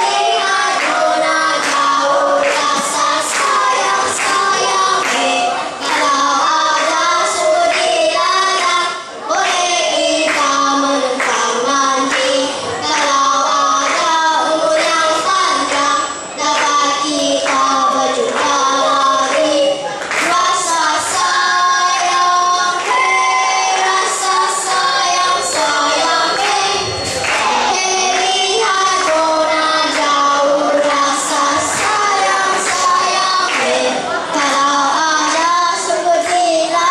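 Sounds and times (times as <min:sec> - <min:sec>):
children singing into microphones: 0:00.0 - 0:36.9.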